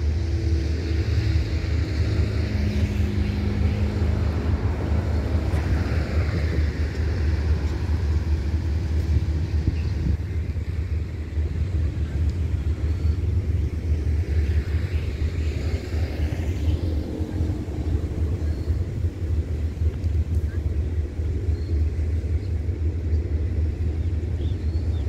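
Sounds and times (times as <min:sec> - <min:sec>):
standing train low rumble: 0:00.0 - 0:25.0.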